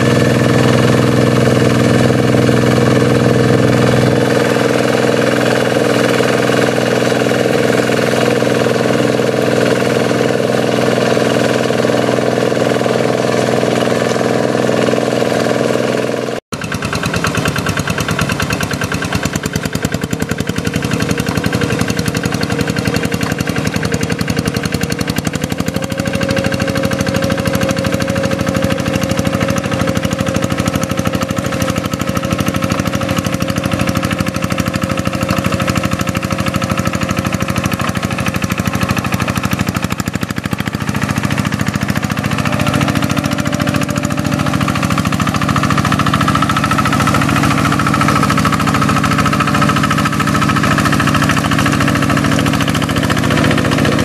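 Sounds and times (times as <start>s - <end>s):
diesel engine knocking under load: 0.0s - 54.0s.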